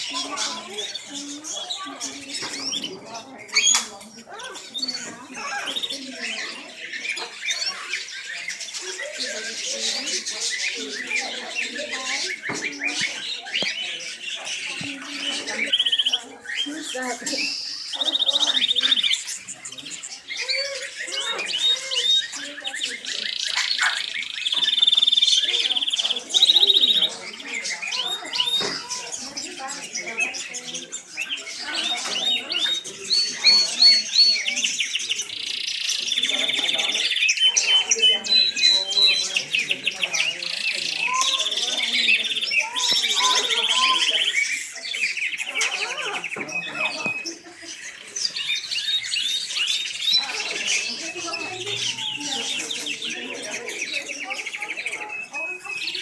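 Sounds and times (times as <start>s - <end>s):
canaries singing: 0.0s - 56.0s.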